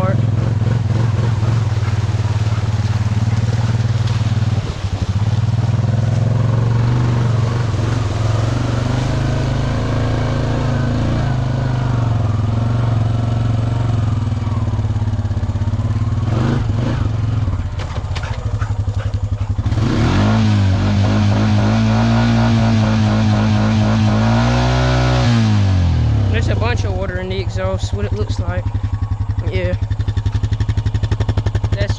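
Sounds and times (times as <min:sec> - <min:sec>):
atv engine running: 0:00.0 - 0:31.9.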